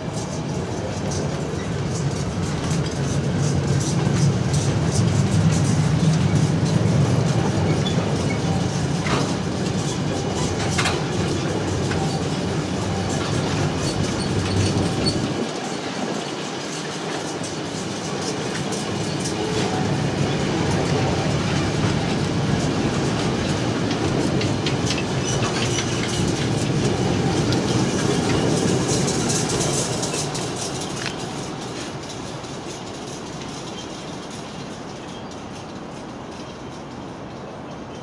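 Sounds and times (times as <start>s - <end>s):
freight train wheels clacking on rails: 0.0s - 38.0s.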